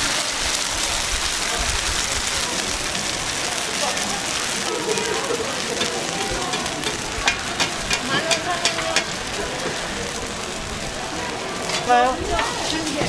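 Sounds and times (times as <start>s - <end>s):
pancakes sizzling on griddle: 0.0s - 13.0s.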